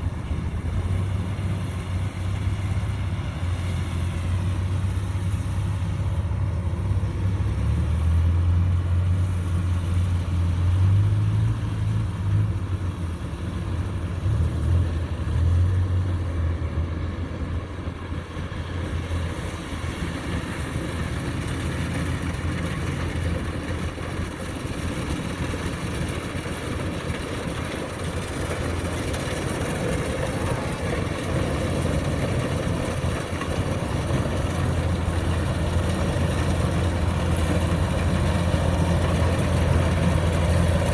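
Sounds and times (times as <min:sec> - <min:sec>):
combine harvester engine hum: 0:00.0 - 0:40.9.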